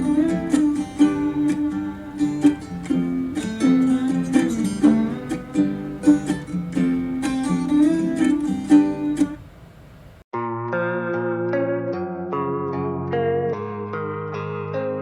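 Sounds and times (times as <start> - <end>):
plucked acoustic guitar music: 0.0 - 15.0.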